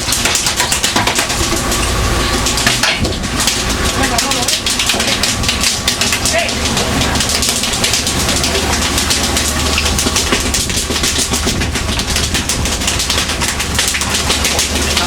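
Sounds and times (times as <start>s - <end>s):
boat engine droning: 0.0s - 15.0s
clatter and rattling: 0.0s - 15.0s.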